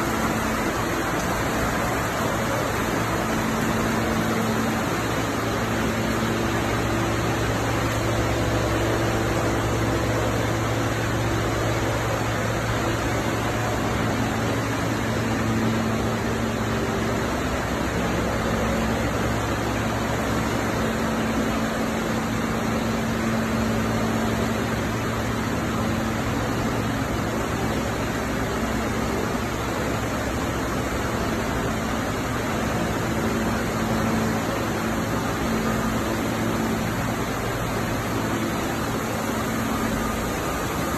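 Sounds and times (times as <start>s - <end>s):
low electric motor hum: 0.0s - 40.9s
recycling machinery running: 0.0s - 40.9s.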